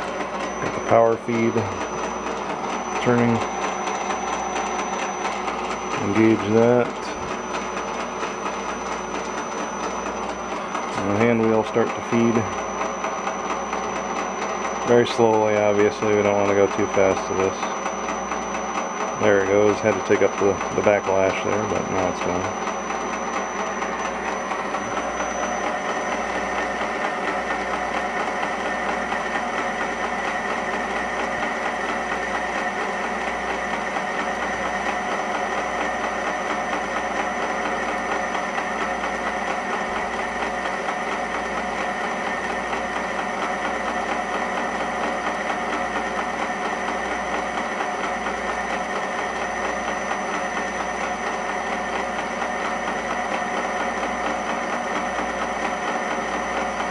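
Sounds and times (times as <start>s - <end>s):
metal lathe humming: 0.0s - 56.9s.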